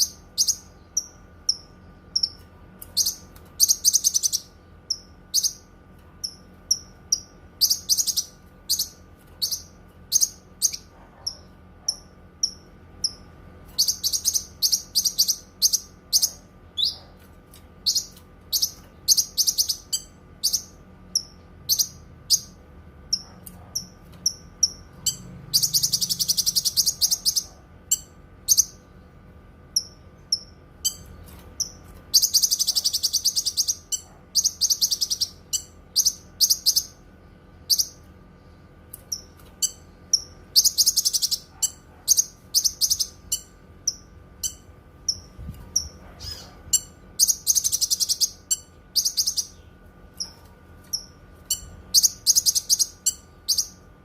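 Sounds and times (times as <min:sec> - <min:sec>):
bird chirping: 0:00.0 - 0:29.0, 0:29.7 - 0:38.1, 0:39.0 - 0:53.9
buzzy bird trill: 0:00.0 - 0:54.0.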